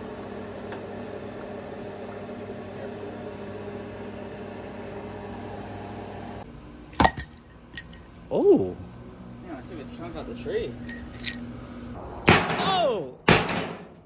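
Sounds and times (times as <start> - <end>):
low hum: 1.8 - 14.0.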